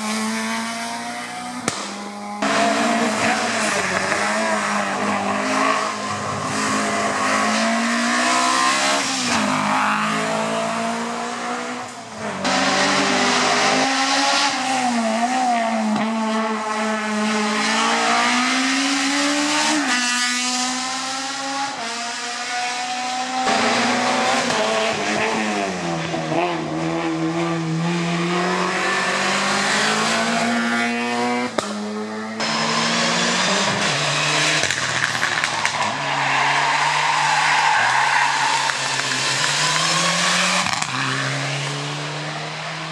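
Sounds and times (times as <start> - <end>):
race car engines at full throttle: 0.0 - 42.9.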